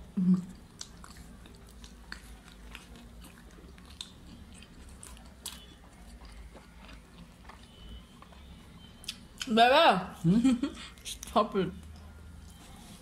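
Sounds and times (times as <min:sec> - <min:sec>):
people chewing food: 0:00.0 - 0:09.6, 0:10.2 - 0:13.0.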